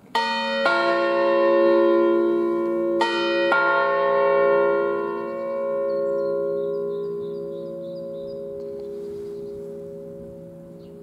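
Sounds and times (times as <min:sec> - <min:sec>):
church bells ringing: 0:00.1 - 0:11.0.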